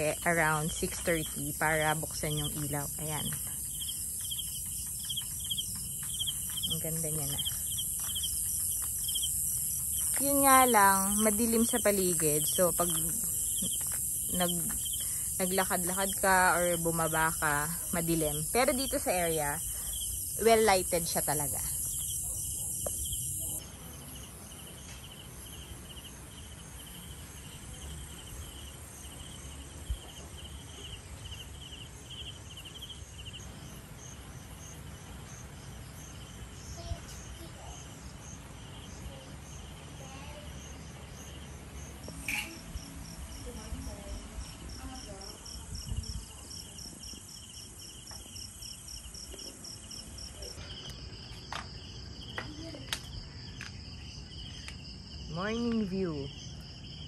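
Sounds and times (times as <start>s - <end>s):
insects chirping in trills: 0.0s - 57.0s
low outdoor hum: 0.0s - 57.0s.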